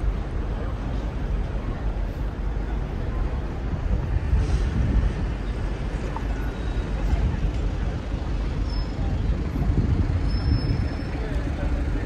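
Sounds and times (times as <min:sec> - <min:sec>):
faint voices of passers-by: 0:00.0 - 0:12.0
traffic rumble: 0:00.0 - 0:12.0.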